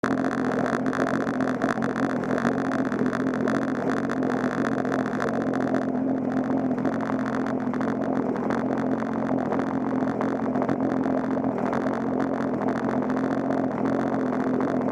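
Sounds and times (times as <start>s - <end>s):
watercraft engine running: 0.0s - 14.9s.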